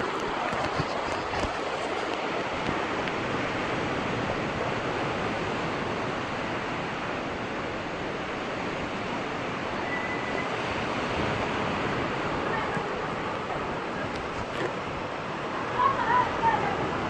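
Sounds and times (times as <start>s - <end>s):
sea waves on a beach: 0.0s - 17.0s.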